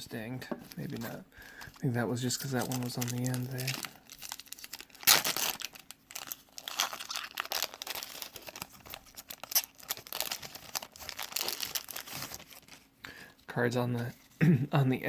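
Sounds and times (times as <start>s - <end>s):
wrapper tearing and crinkling: 0.7s - 12.9s.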